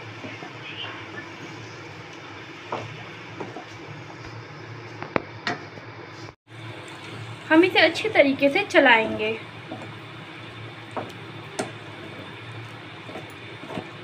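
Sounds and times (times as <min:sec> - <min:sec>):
food sizzling in a pan: 0:00.0 - 0:05.0, 0:06.5 - 0:14.0.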